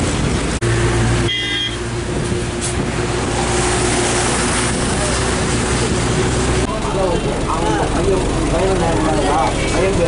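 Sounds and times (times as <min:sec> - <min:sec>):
vehicle noise: 0:00.0 - 0:10.0.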